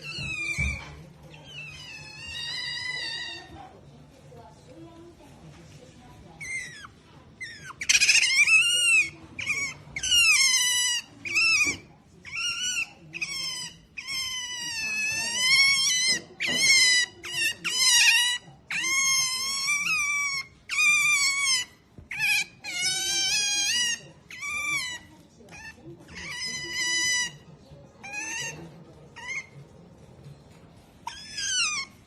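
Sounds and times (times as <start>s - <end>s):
otter squealing and chirping: 0.0s - 3.6s, 6.4s - 29.6s, 31.0s - 32.0s.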